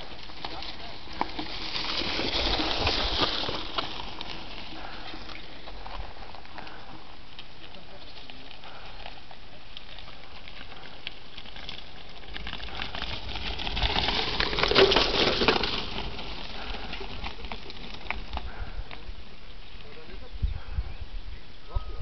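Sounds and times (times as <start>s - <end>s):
bike tyres crunching on dirt: 0.0s - 21.8s.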